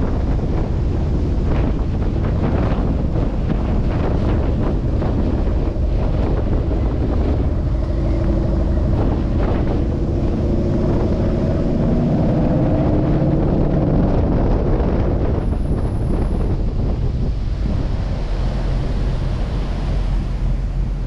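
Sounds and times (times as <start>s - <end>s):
car engine rumbling: 0.0s - 21.0s
wind buffeting microphone: 0.0s - 21.0s.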